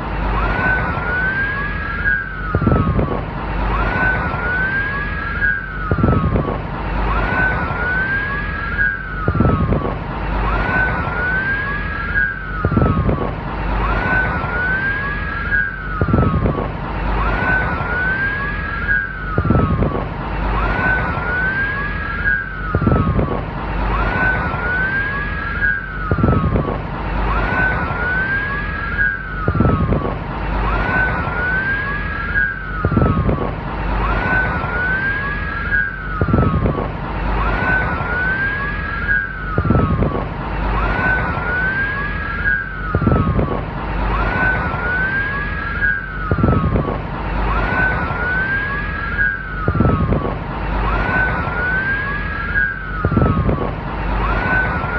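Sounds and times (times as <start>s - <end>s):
low rumble: 0.0s - 54.9s
police car siren: 0.3s - 54.9s.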